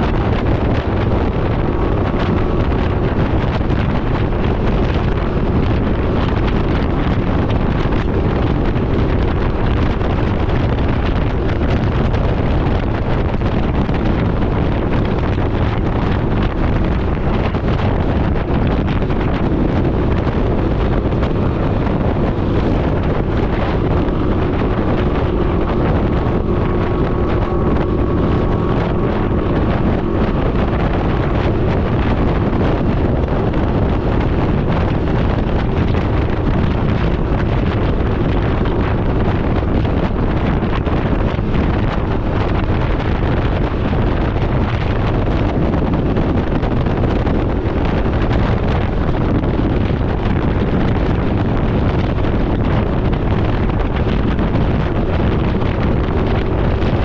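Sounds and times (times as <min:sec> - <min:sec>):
vehicle running noise: 0:00.0 - 0:57.0
wind rush on microphone: 0:00.0 - 0:57.0.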